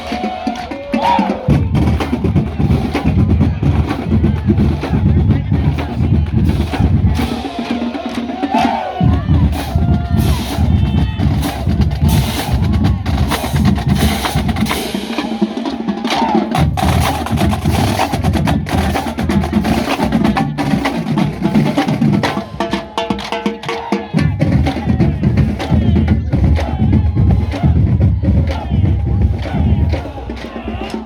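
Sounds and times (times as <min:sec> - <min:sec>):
bass drums: 0:00.0 - 0:15.2, 0:16.2 - 0:22.6, 0:24.2 - 0:31.0
snare drums playing: 0:00.0 - 0:31.0.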